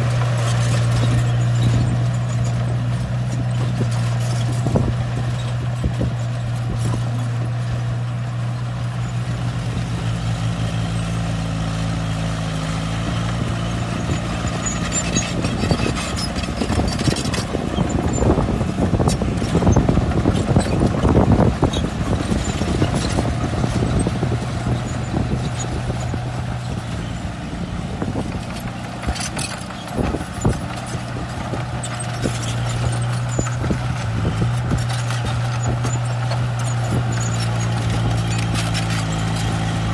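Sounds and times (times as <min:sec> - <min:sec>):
bulldozer tracks clanking: 0:00.0 - 0:39.9
diesel engine droning: 0:00.0 - 0:39.9.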